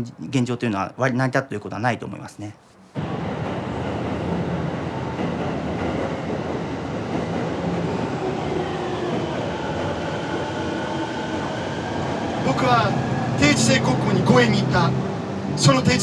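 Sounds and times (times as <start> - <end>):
train rumbling and rattling: 3.0 - 16.0.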